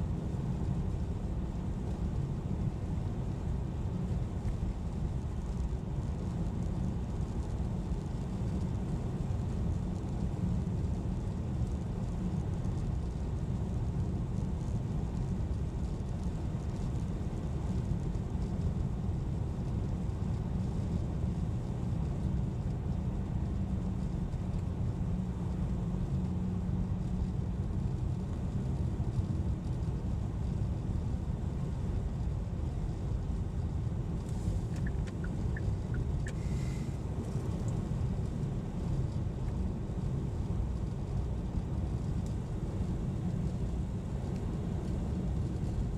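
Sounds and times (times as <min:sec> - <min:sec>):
car driving road rumble: 0:00.0 - 0:45.9.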